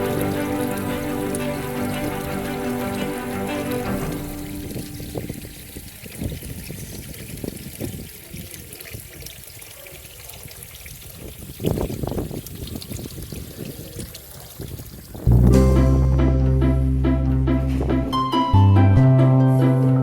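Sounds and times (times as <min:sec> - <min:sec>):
water splashes: 0:00.0 - 0:16.1
water trickling into pond: 0:00.0 - 0:16.2.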